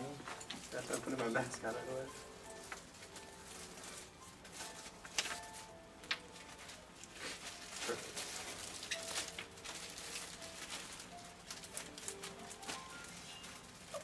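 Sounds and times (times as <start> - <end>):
plastic apron crinkling: 0.0 - 14.0.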